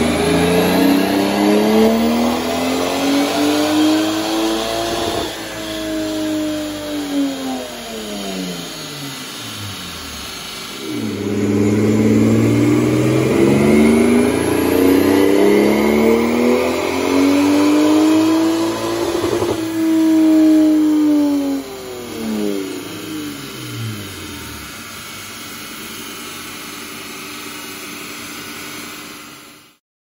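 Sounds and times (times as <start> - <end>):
car engine revving under load: 0.0 - 26.8.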